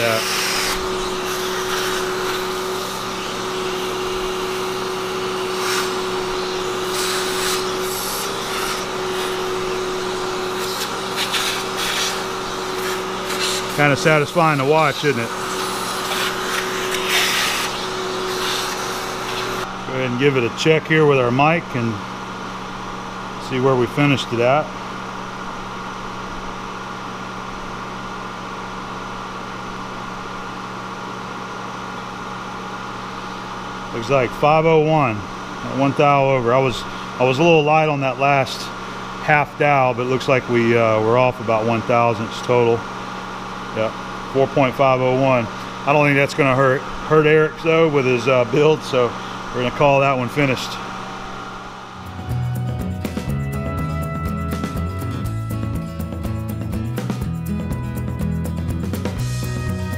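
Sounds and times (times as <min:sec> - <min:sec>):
shop vacuum whining: 0:00.0 - 0:59.9.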